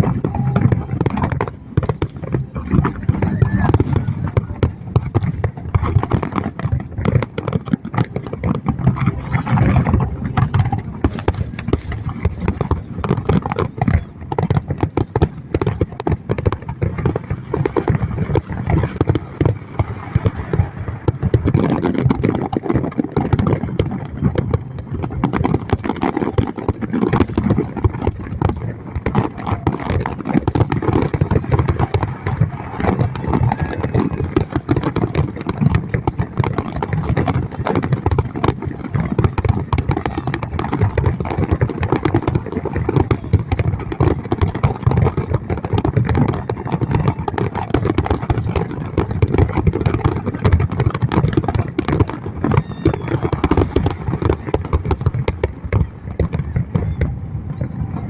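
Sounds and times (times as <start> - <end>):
fireworks bangs and crackles: 0.0 - 58.0
low rumble: 0.0 - 58.0.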